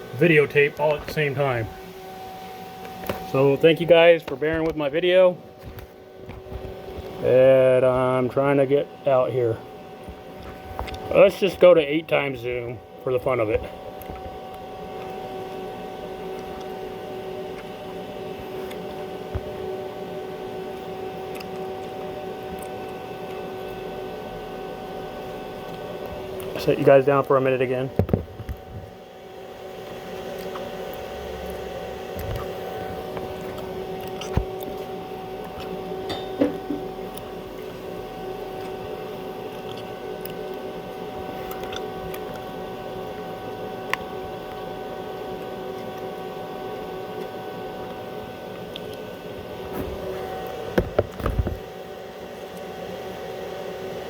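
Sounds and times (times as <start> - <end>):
machine hum: 0.0 - 54.0.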